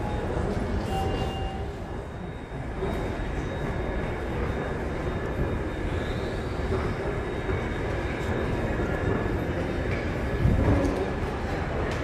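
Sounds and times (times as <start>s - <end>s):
airport terminal low rumble: 0.0s - 12.0s.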